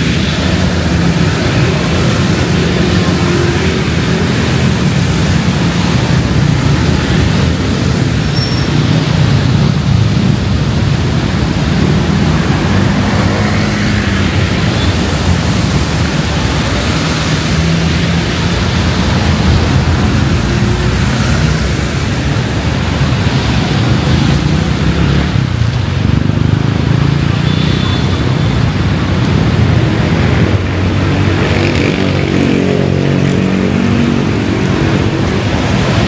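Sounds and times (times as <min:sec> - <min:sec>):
heavy rain: 0:00.0 - 0:36.0
street traffic hum: 0:00.0 - 0:36.0.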